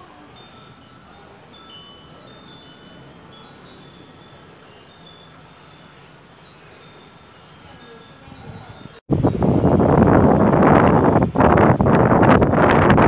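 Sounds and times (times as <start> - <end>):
metal chimes tinkling: 0.0 - 9.8, 10.6 - 13.0
steady background hiss: 0.0 - 13.0.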